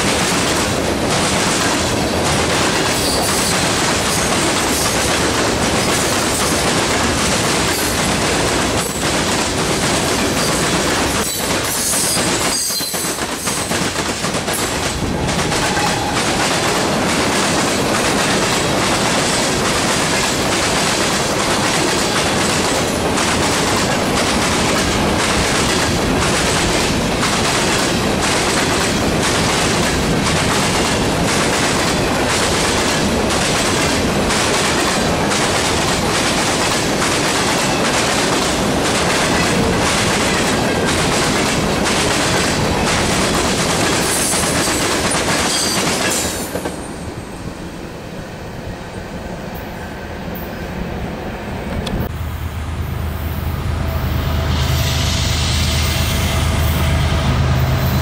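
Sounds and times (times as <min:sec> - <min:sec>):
freight train cars rolling past: 0:00.0 - 0:58.0.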